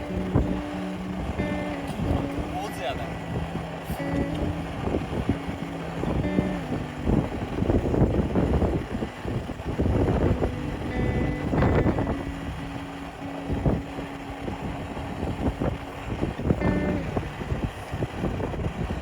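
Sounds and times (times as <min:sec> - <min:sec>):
faint steady tones: 0:00.0 - 0:19.0
wind buffeting microphone: 0:00.0 - 0:19.0.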